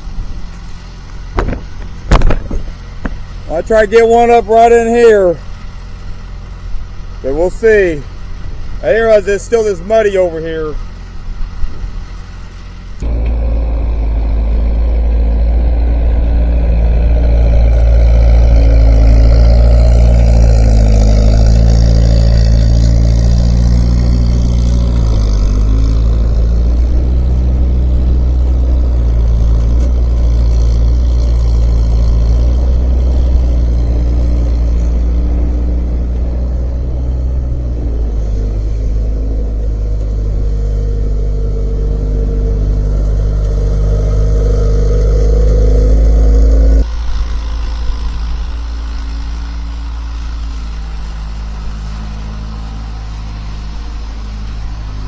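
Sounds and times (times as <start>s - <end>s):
skid steer engine at high throttle: 0.0s - 55.0s.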